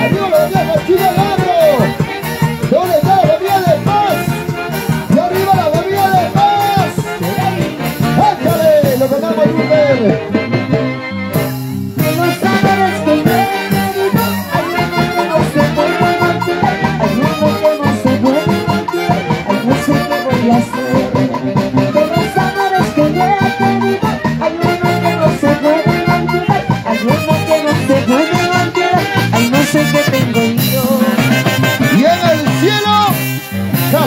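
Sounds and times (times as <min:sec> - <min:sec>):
percussion beat: 0:00.0 - 0:34.0
saxophones and brass melody: 0:00.0 - 0:34.0
steady bass: 0:00.0 - 0:34.0.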